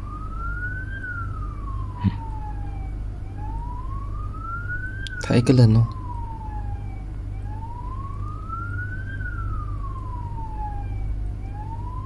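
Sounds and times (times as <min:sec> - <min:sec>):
police siren wailing: 0:00.0 - 0:12.0
steady low hum: 0:00.0 - 0:12.0.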